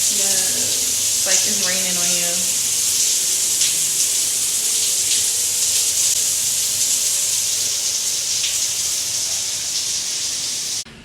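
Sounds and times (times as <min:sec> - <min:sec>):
showerhead water pouring: 0:00.0 - 0:10.8.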